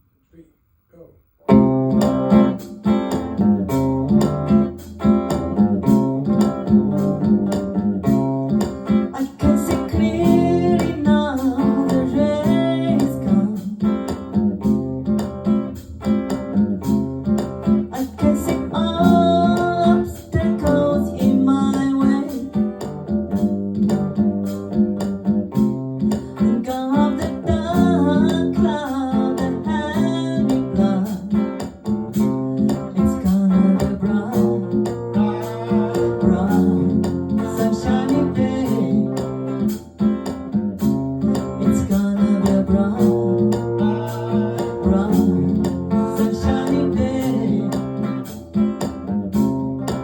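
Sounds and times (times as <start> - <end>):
strummed acoustic guitar: 1.5 - 50.0.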